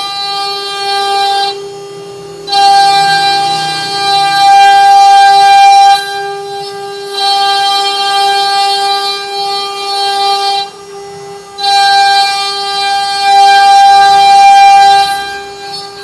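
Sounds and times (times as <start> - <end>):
cnc router whining: 0.0 - 16.0.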